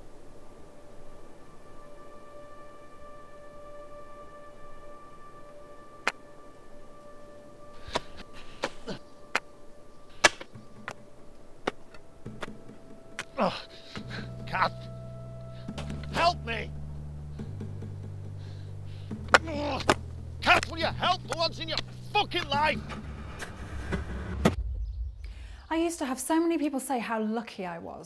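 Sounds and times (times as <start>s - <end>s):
soft held musical tones: 0.0s - 23.2s.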